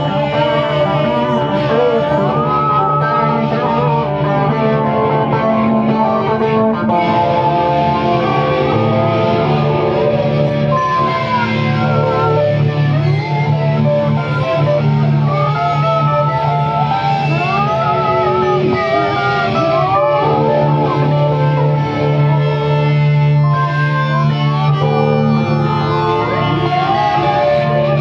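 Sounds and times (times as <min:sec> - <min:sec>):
electric guitars playing slowly: 0:00.0 - 0:28.0.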